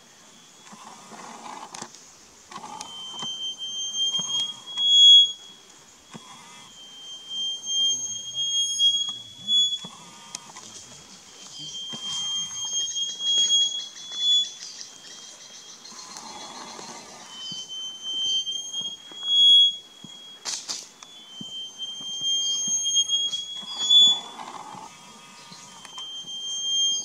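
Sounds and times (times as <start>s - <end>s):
songbird whistling: 2.7s - 27.0s.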